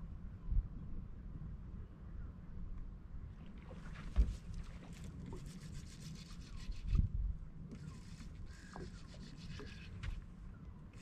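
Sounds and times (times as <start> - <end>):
wind and water on hull: 0.0 - 11.0.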